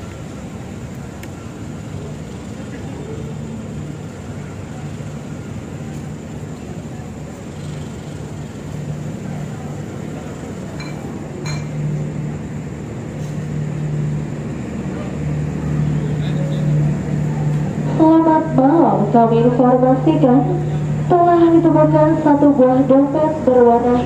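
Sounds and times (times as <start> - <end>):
diesel train humming: 0.0 - 24.0.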